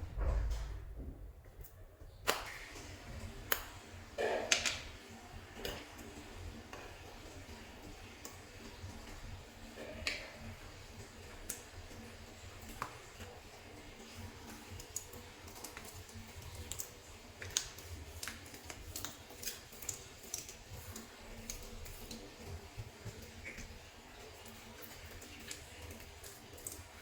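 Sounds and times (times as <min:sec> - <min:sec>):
clay being kneaded by hand: 0:00.1 - 0:27.0.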